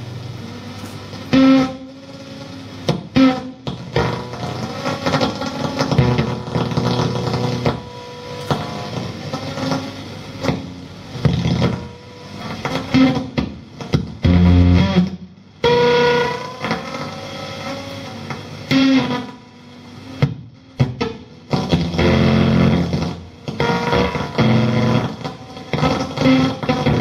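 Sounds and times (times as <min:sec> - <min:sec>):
electric guitar through amplifier: 0:00.0 - 0:27.0.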